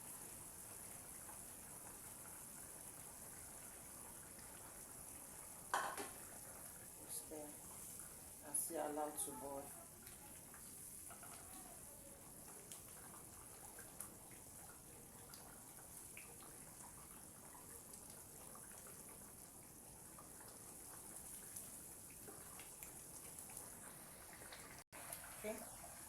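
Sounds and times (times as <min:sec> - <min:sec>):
sauce bubbling in a pot: 0:00.0 - 0:26.0.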